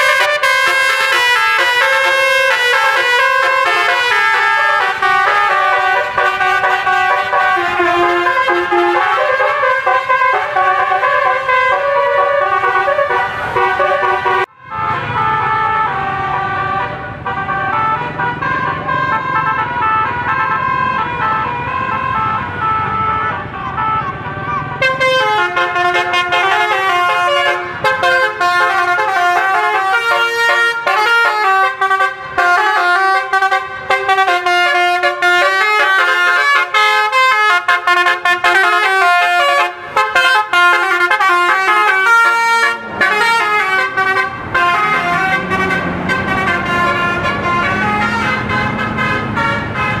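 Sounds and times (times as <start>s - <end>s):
musical air horn toots: 0.0s - 18.2s, 24.8s - 50.0s.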